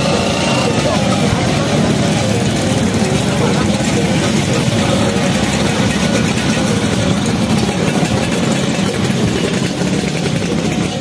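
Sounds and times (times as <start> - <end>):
many scooter engines running: 0.0 - 11.0.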